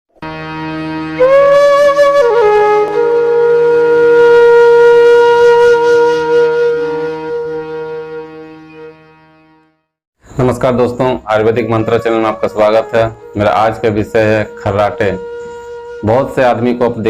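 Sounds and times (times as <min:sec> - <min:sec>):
wind instrument melody: 0:00.2 - 0:09.8, 0:10.9 - 0:17.0.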